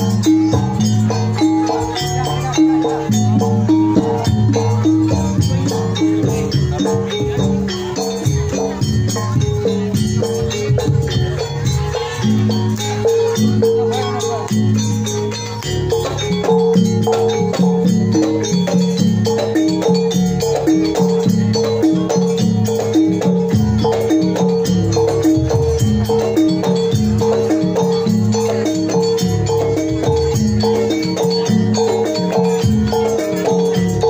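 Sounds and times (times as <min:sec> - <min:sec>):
gamelan music: 0:00.0 - 0:34.0.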